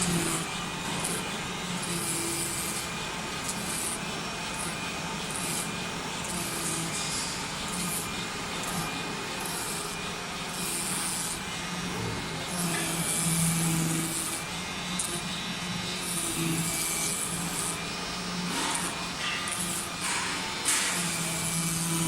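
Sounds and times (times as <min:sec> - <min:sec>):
cutting machine hissing: 0:00.0 - 0:22.0
low buzzing motor hum: 0:00.0 - 0:22.0.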